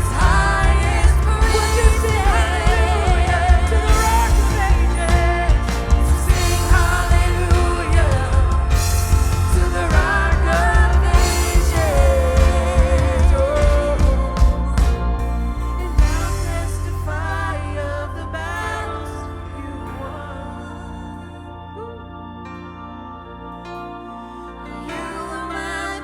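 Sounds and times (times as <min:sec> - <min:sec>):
live worship band: 0:00.0 - 0:26.0.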